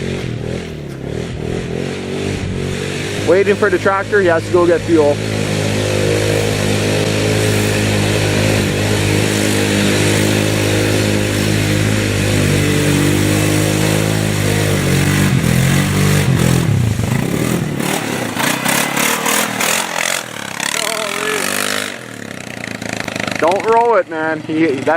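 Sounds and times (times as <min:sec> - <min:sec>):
atv engine running: 0:00.0 - 0:24.9
rapid crackling: 0:01.8 - 0:24.9.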